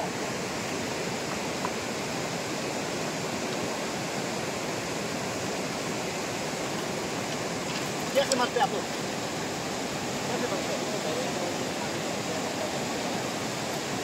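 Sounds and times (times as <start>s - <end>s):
river rushing over stones: 0.0s - 14.0s.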